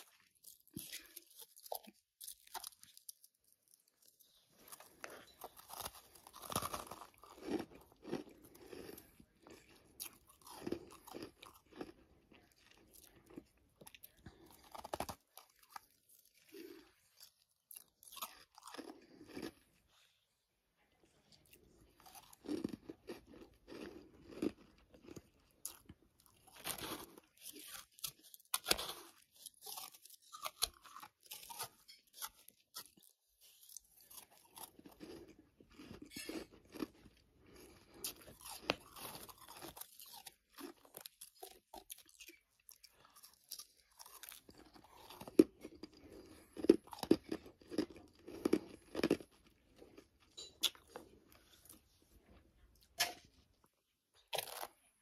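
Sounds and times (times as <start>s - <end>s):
crunching and chewing frost: 0.0s - 55.0s.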